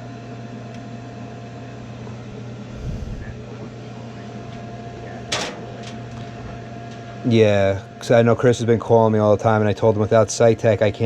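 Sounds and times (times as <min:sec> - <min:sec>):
hvac equipment humming: 0:00.0 - 0:11.0.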